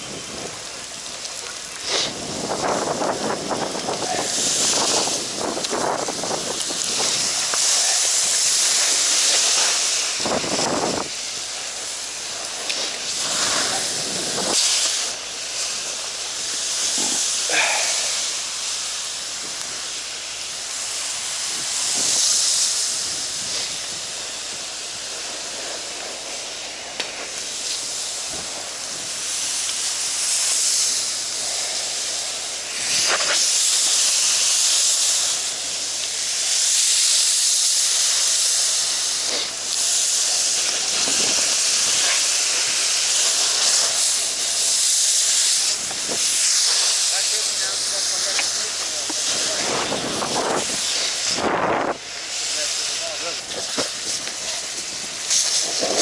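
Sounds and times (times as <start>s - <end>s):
fire hose spray hissing: 0.0s - 56.0s.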